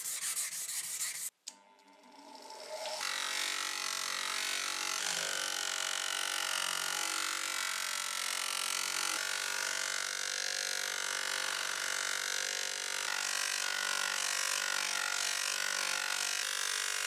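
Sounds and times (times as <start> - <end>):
bench grinder motor hum: 1.8 - 17.0.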